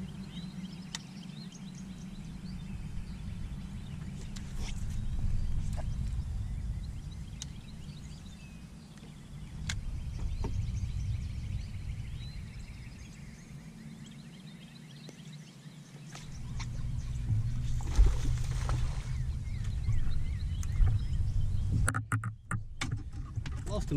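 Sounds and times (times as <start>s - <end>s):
faint birdsong: 0.0s - 23.9s
wind rumbling on microphone: 0.0s - 23.9s.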